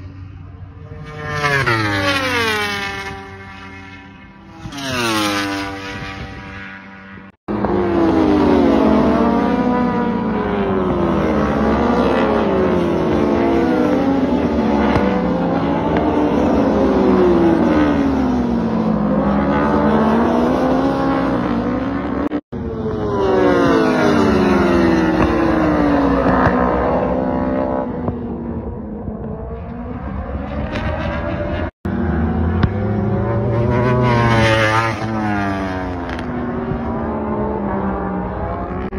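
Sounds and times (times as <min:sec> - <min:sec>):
racing motorcycles at full throttle: 0:00.0 - 0:38.9.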